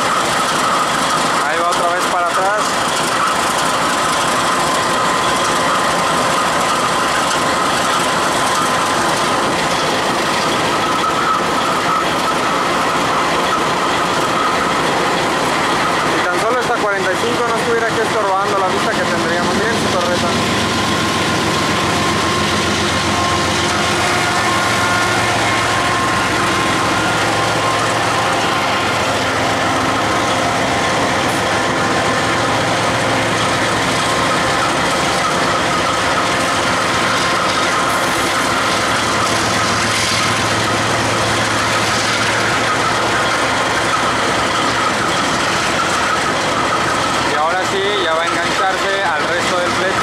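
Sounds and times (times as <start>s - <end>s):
held high tones: 0.0s - 50.0s
locomotive engine drone: 0.0s - 50.0s.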